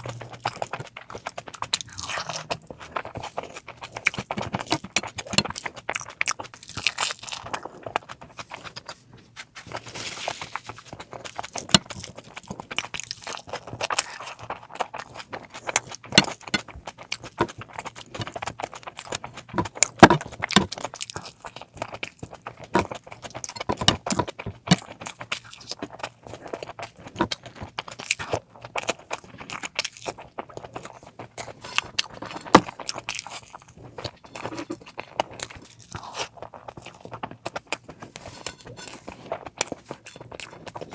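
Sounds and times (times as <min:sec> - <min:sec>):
person chewing and smacking: 0:00.0 - 0:40.9.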